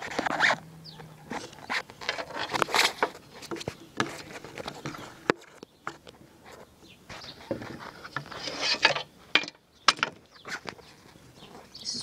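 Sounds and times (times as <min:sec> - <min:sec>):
plastic rubbing and scraping: 0:00.0 - 0:00.6, 0:01.2 - 0:11.8.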